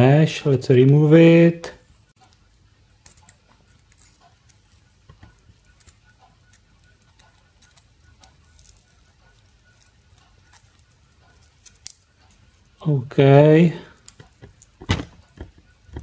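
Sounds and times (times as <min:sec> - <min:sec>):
small clicks and crackles: 0:02.1 - 0:12.8, 0:13.9 - 0:16.0.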